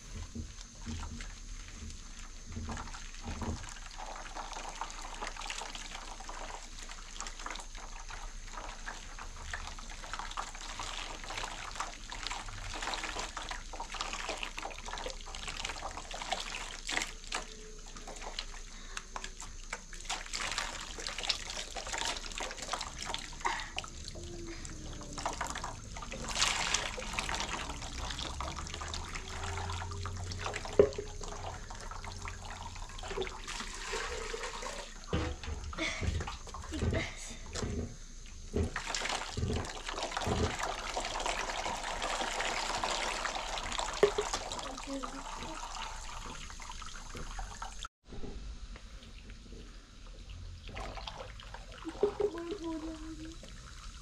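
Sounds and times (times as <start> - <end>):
water trickling into basin: 0.1 - 47.9, 48.9 - 54.0
water poured over hair: 0.4 - 37.4, 38.3 - 47.9, 50.2 - 54.0.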